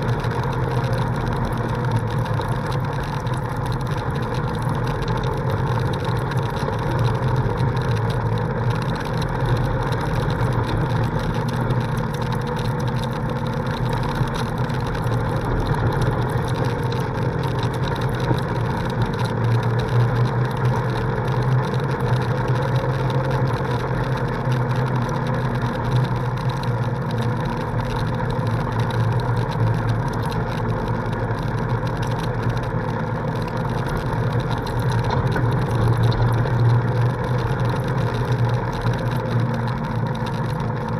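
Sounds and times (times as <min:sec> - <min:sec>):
vehicle engine low hum: 0:00.0 - 0:40.9.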